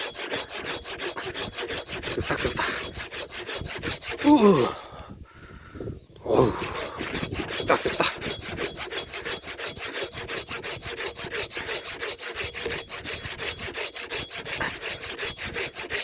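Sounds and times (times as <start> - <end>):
hand saw rasping through log: 0.0 - 4.8, 6.4 - 16.0.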